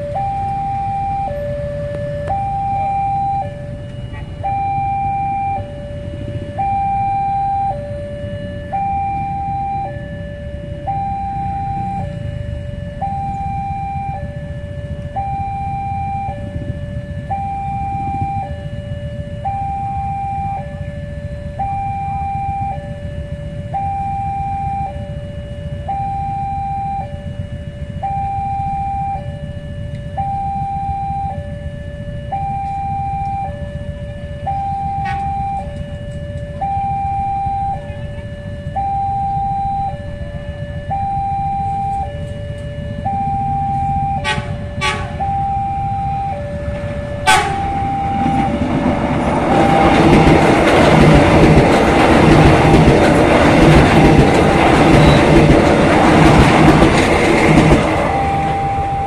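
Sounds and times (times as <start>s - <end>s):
level crossing two-tone alarm: 0.0s - 59.0s
low rumble: 10.4s - 59.0s.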